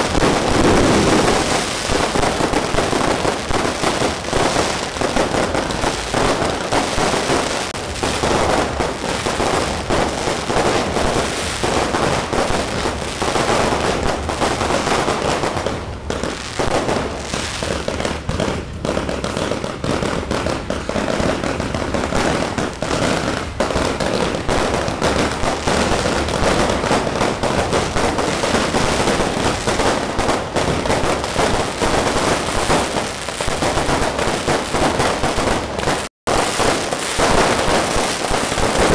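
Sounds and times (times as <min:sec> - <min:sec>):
fireworks crackling bangs: 0:00.0 - 0:38.9.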